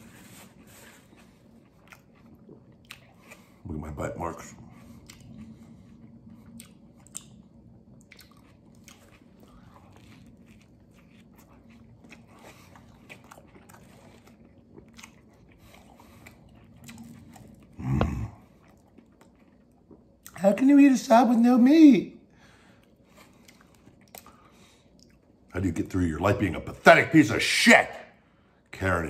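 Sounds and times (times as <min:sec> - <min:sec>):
man chewing sandwich: 0:00.0 - 0:20.4, 0:22.3 - 0:25.6.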